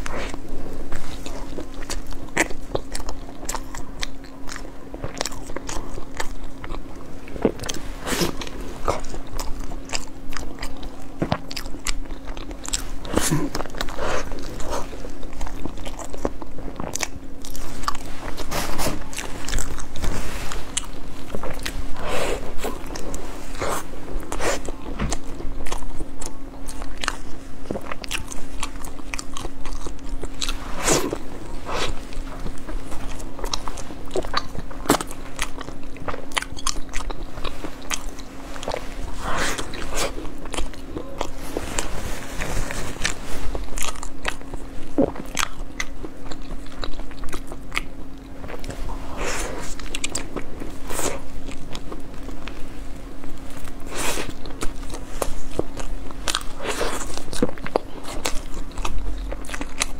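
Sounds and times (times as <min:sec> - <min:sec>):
biting and chewing food: 0:00.0 - 0:59.9
faint low hum: 0:00.0 - 0:59.9.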